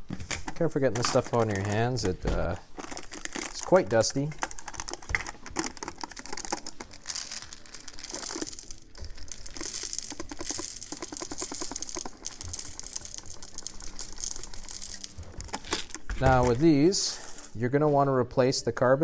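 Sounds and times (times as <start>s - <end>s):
foil seal crinkling: 0.2s - 17.6s
pellets rattling into plastic container: 0.4s - 17.6s.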